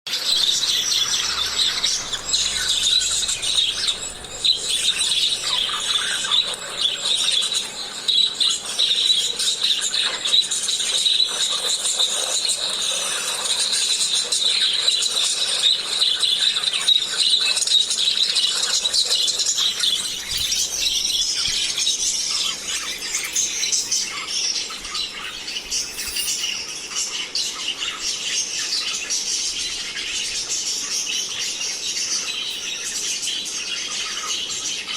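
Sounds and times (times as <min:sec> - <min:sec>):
lovebirds chirping and chattering: 0:00.2 - 0:34.9.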